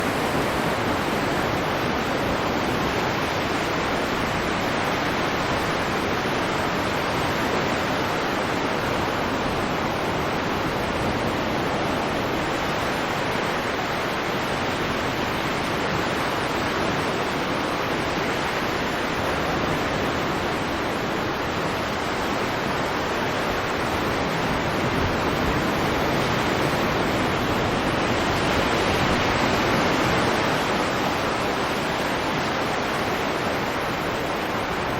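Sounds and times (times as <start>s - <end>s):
waves and surf rushing: 0.0s - 34.9s.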